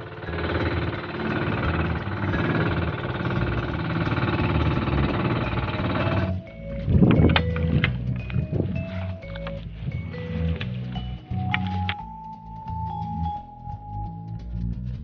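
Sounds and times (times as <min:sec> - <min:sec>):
small engine rattling: 0:00.0 - 0:12.0.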